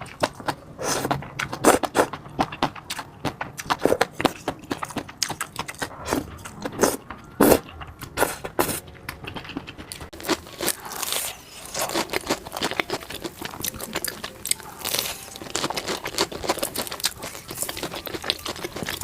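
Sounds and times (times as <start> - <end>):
biting and chewing food: 0.0 - 19.0.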